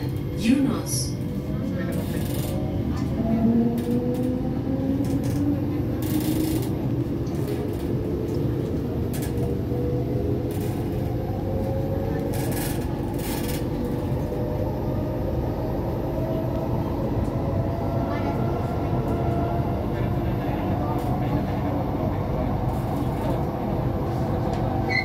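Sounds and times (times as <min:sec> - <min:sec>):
wheels rumbling on track: 0:00.0 - 0:25.0.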